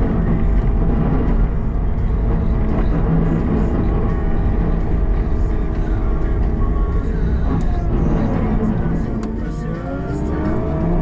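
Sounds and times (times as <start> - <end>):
diesel loader engine running: 0.0 - 11.0.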